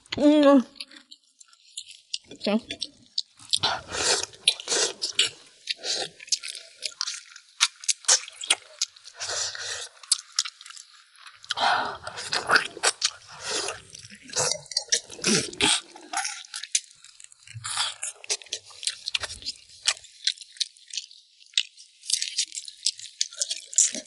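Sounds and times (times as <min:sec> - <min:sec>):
people chewing meat off bone: 0:00.8 - 0:24.0.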